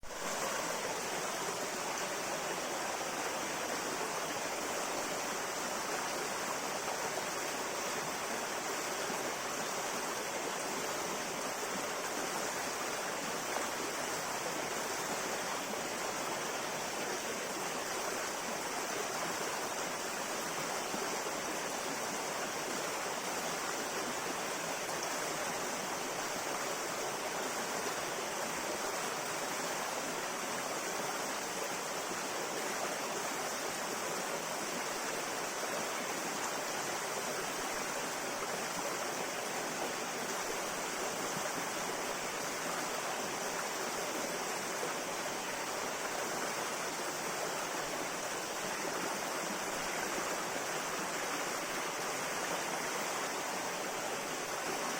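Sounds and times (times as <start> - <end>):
water running over rocks: 0.0 - 54.9.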